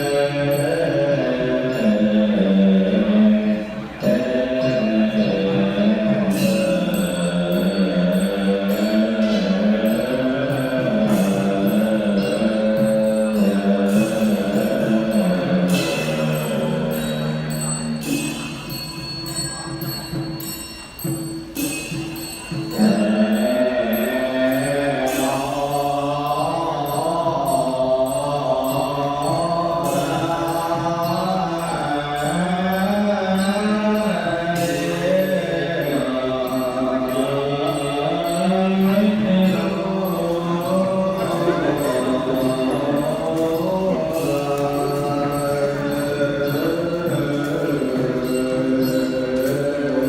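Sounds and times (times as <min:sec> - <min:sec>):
low slow chanted vocal: 0:00.0 - 0:50.0.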